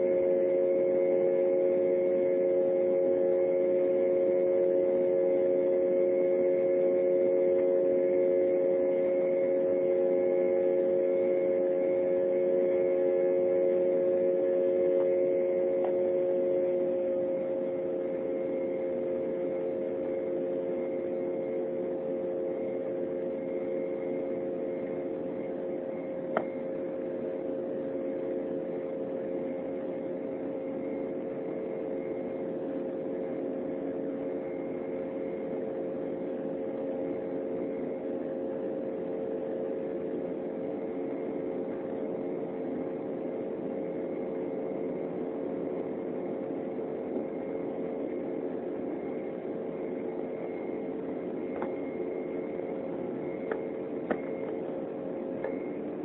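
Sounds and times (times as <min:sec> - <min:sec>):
aircraft cabin drone: 0:00.0 - 0:56.0.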